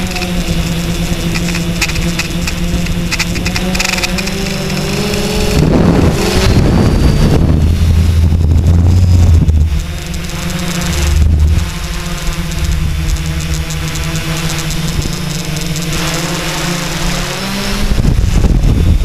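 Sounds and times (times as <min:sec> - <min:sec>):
drone motors humming: 0:00.0 - 0:19.0
wind rumbling on microphone: 0:00.0 - 0:19.0.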